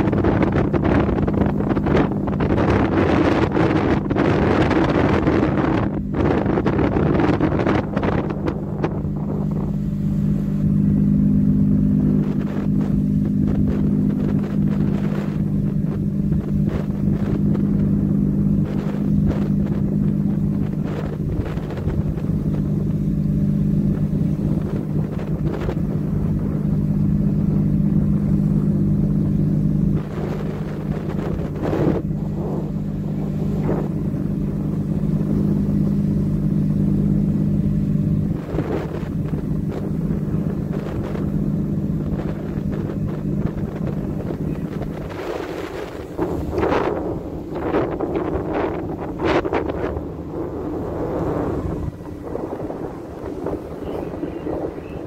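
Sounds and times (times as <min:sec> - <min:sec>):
ship engine humming: 0:00.0 - 0:55.0
wind buffeting microphone: 0:00.0 - 0:55.0.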